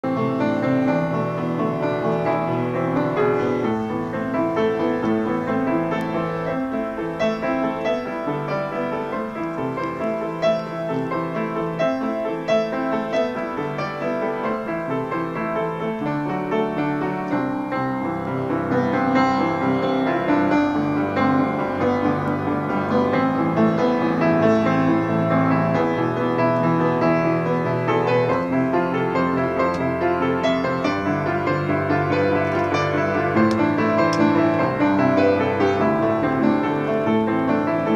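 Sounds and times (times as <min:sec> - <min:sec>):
upright piano playing: 0:00.0 - 0:37.9.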